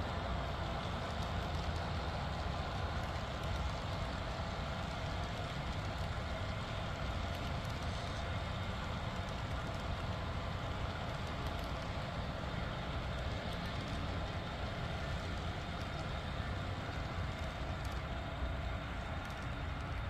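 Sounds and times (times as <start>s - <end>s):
model train rumbling: 0.0s - 20.0s.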